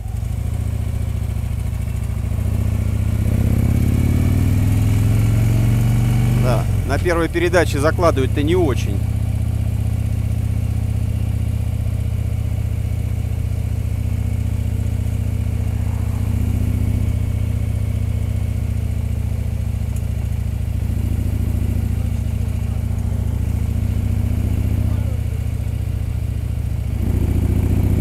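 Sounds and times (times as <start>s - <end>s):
motorcycle engine rumble: 0.0s - 28.0s.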